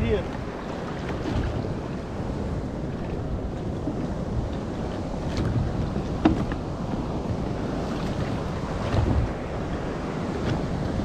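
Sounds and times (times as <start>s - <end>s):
water washing around kayak: 0.0s - 11.0s
wind buffeting microphone: 0.0s - 11.0s.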